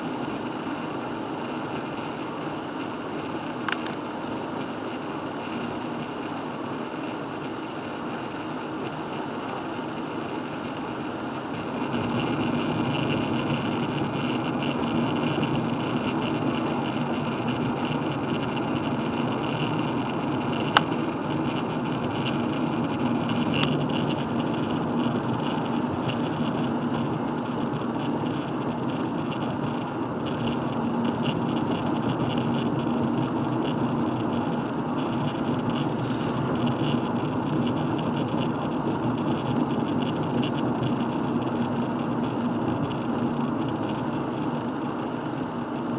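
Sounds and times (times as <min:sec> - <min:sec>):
car engine hum: 0:00.0 - 0:45.9.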